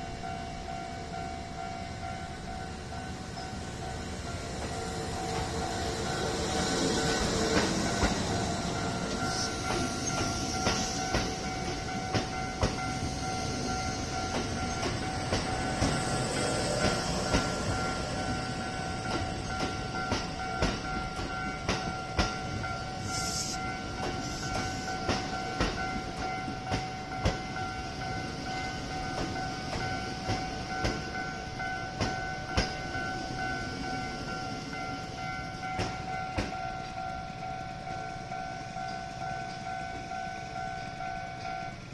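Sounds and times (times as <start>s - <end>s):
train wheels clicking over rail joints: 0.1s - 41.9s.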